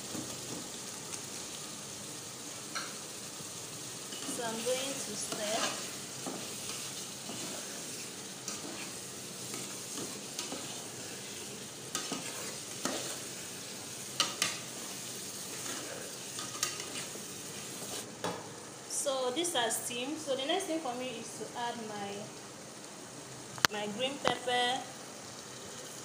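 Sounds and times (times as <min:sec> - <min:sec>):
stew sizzling in pot: 0:00.0 - 0:26.0.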